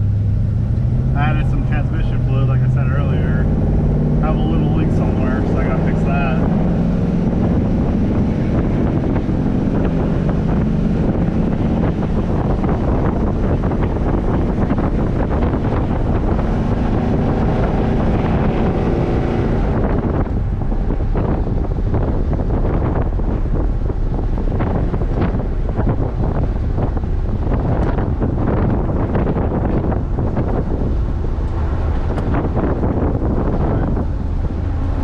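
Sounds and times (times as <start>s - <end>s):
car engine and road noise: 0.0s - 35.0s
wind buffeting microphone: 0.0s - 35.0s.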